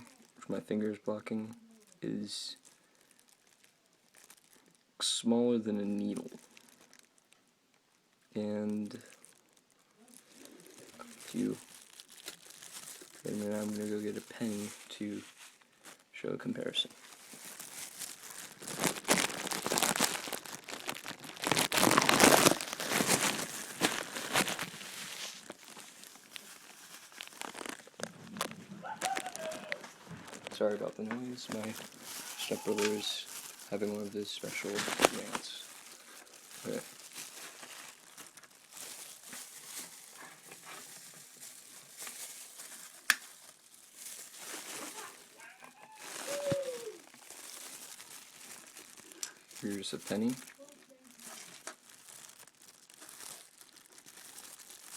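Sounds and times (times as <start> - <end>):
rustling crinkling crackles: 0.0 - 54.9.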